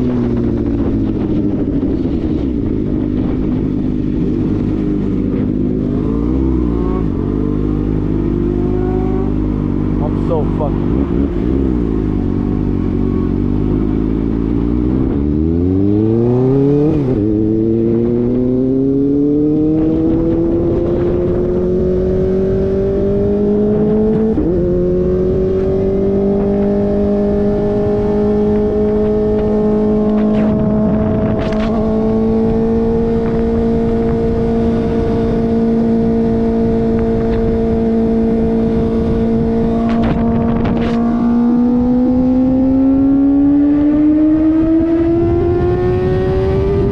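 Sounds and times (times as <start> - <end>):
motorcycle engine shifting gears: 0.0 - 46.9
wind on microphone: 0.0 - 46.9.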